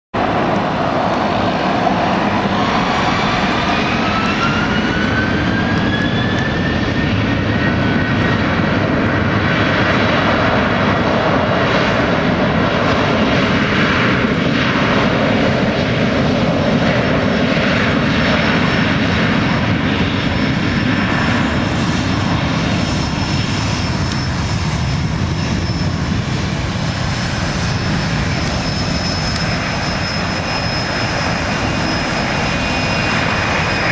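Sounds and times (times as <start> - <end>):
jet engine roar: 0.1 - 33.9
jet engine whine rising: 0.2 - 33.9.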